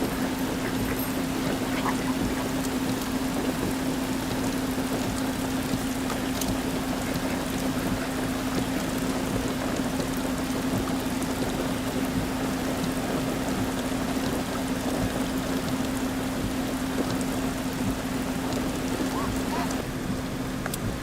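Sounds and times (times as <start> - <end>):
water running and pouring: 0.0 - 19.9
heavy rain: 0.0 - 21.0
steady low hum: 0.0 - 21.0.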